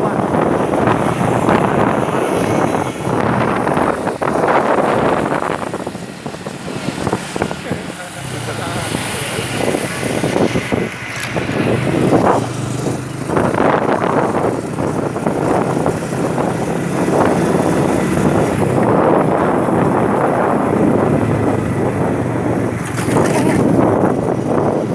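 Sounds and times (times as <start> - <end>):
low engine hum: 0.0 - 24.9
vehicles passing close by: 0.0 - 24.9.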